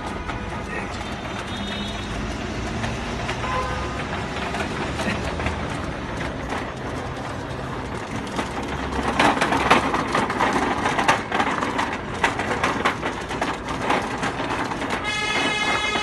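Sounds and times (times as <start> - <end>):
wheels clattering: 0.0 - 16.0.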